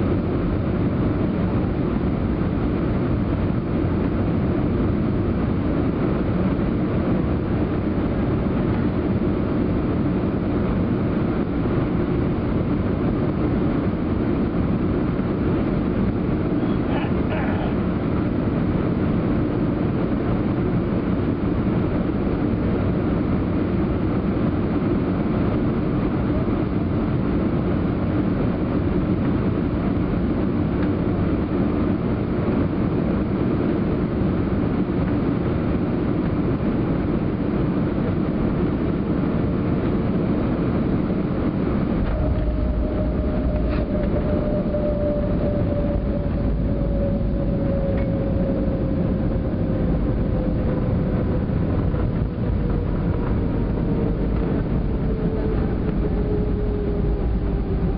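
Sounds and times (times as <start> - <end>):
aircraft cabin engine and airflow rush: 0.0 - 57.9
falling whine: 0.0 - 57.9
landing gear runway rumble: 0.0 - 57.9.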